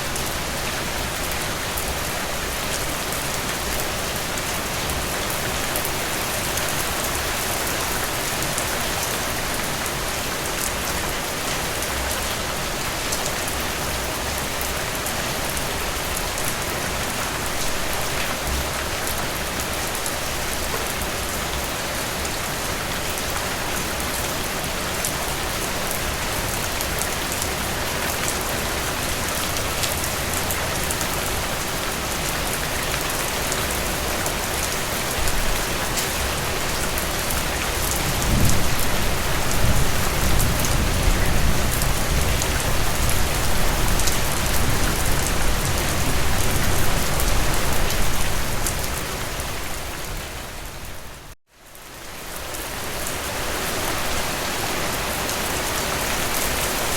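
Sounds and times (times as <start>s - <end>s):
rain falling through trees: 0.0s - 56.9s.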